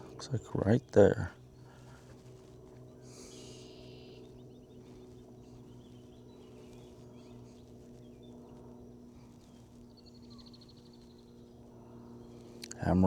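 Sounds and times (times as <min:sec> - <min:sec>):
faint birdsong: 0:00.0 - 0:13.0
steady low hum: 0:00.0 - 0:13.0.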